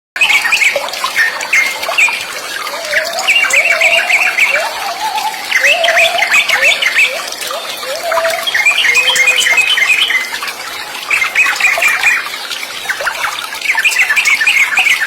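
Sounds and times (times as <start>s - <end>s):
birds chirping and whistling: 0.2s - 15.0s.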